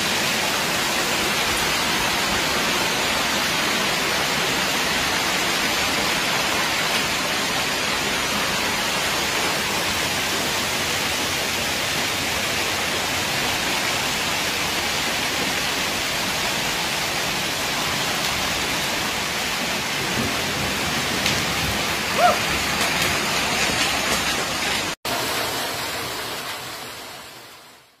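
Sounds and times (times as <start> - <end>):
hail and rain pelting: 0.0 - 27.2.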